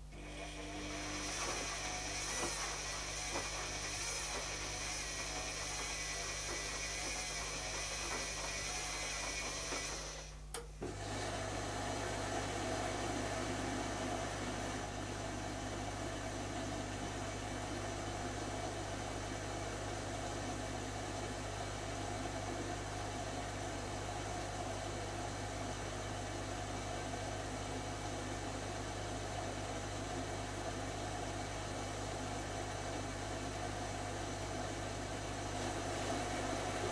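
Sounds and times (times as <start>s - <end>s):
steady motor hum: 0.0s - 36.9s
washing machine running: 0.0s - 36.9s.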